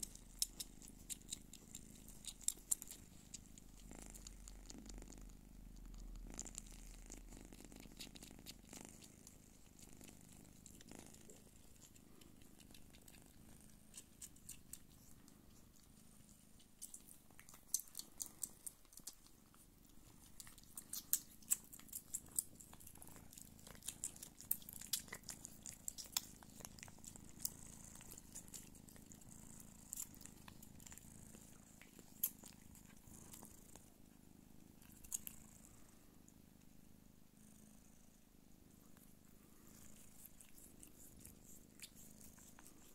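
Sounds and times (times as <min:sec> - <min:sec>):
kittens suckling wet clicks: 0:00.0 - 0:33.5, 0:34.8 - 0:35.4, 0:39.9 - 0:42.9
cat purring: 0:00.0 - 0:42.9.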